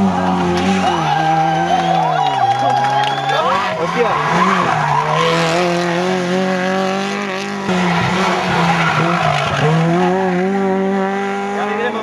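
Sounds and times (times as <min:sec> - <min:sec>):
rally car engines revving: 0:00.0 - 0:12.0.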